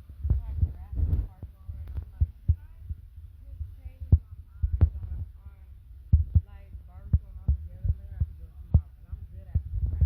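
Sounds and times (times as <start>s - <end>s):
low rumble on microphone: 0.0s - 10.0s
faint voices: 0.3s - 10.0s.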